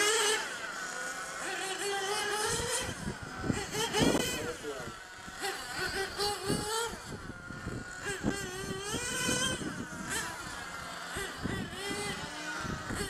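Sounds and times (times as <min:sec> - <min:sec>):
rc car engines revving: 0:00.0 - 0:13.0.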